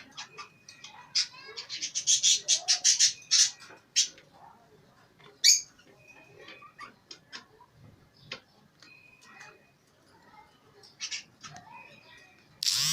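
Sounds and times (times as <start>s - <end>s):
pet birds chirping: 0.0s - 12.9s.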